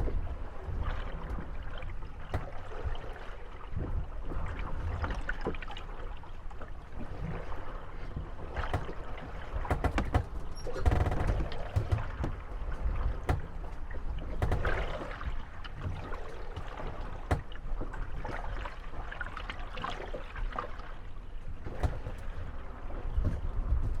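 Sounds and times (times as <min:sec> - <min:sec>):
water lapping at hulls: 0:00.0 - 0:24.0
wooden boats creaking and knocking: 0:00.0 - 0:24.0.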